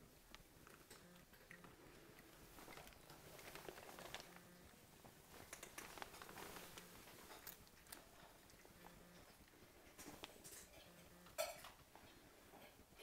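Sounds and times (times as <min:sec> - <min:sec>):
cat crunching dry kibble: 0:00.3 - 0:10.8.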